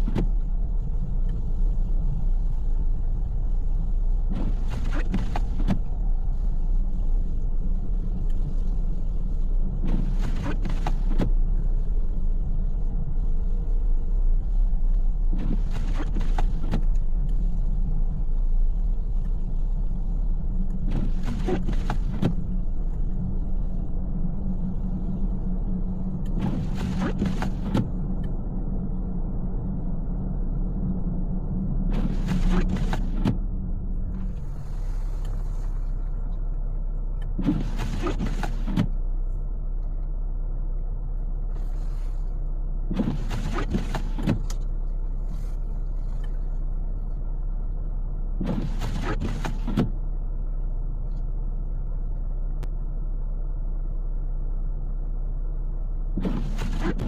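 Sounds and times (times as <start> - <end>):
windshield wipers sweeping: 0.0 - 39.4, 41.5 - 50.2, 56.1 - 57.0
road and engine rumble: 0.0 - 57.0.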